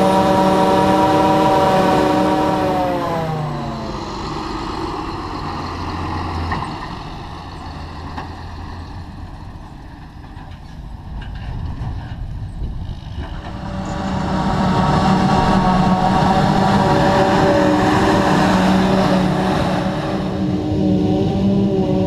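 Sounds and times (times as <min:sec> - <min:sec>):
loud machinery whine: 0:00.0 - 0:09.1, 0:12.8 - 0:22.0
low engine rumble: 0:00.0 - 0:22.0.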